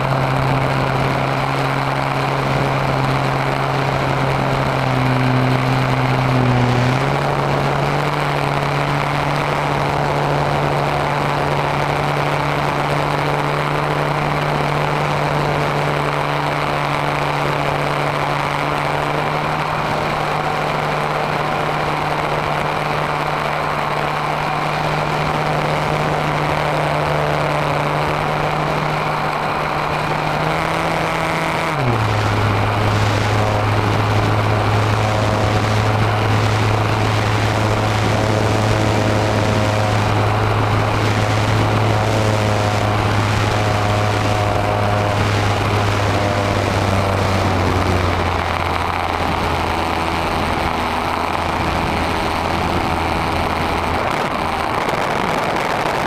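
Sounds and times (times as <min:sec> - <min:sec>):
model airplane motor droning: 0:00.0 - 0:56.0.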